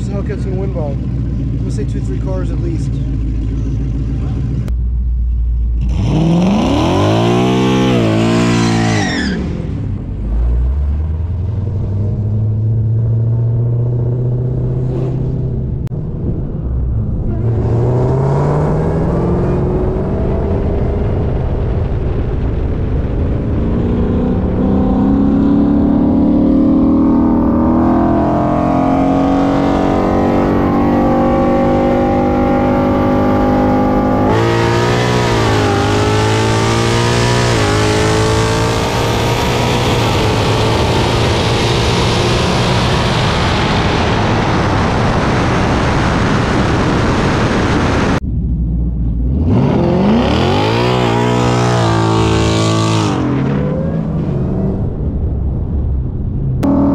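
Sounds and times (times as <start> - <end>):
supercharged car engine revving: 5.8 - 15.8, 17.2 - 21.8, 23.4 - 48.2, 49.1 - 55.0, 56.6 - 56.9.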